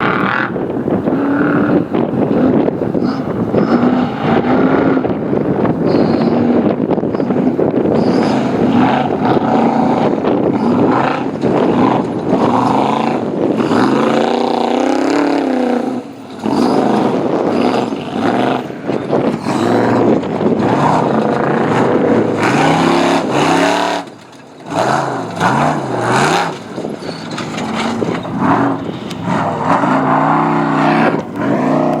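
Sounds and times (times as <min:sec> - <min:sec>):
race car engine revving: 0:00.0 - 0:32.0.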